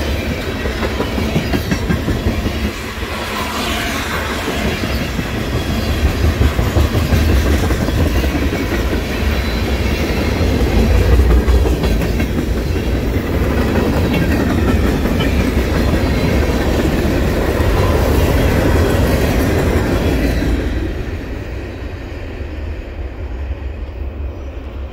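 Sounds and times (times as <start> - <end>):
steel wheels clattering on rails: 0.0 - 20.6
freight train rumbling: 0.0 - 24.9.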